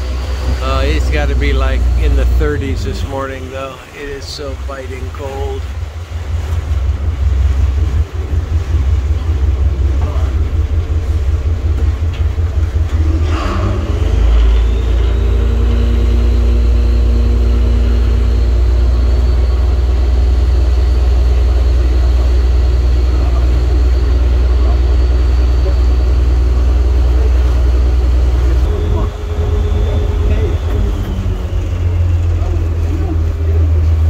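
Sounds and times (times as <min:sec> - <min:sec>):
boat engine rumble: 0:00.0 - 0:34.0
faint high whine: 0:00.0 - 0:34.0.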